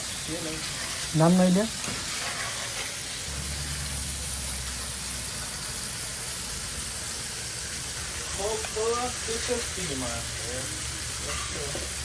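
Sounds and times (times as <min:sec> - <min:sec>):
burger patties sizzling on griddle: 0:00.0 - 0:12.0.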